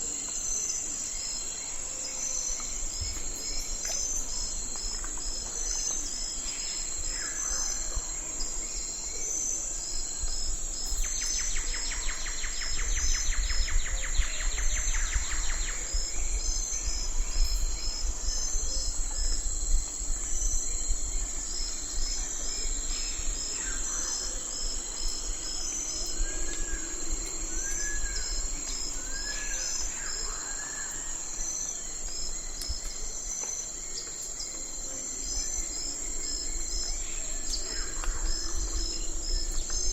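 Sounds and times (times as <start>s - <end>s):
crickets chirping: 0.0s - 39.9s
insects chorus: 0.0s - 39.9s.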